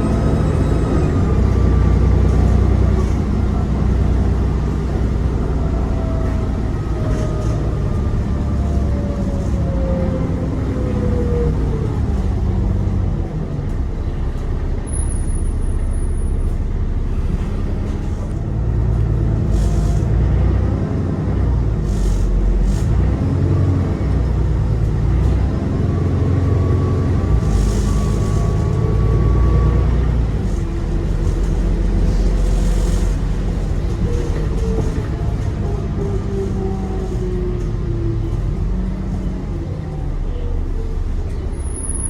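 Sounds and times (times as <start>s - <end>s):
bus turbo whine: 0.0s - 42.0s
low engine rumble: 0.0s - 42.0s.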